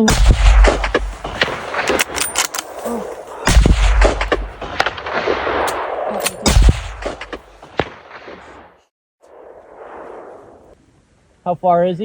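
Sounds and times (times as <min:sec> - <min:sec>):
rifle shots: 0:00.0 - 0:10.8.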